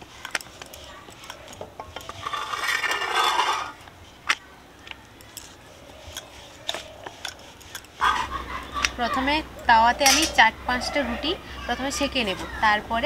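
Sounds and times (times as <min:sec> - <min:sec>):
dough scraping on hot griddle: 0:00.0 - 0:10.8.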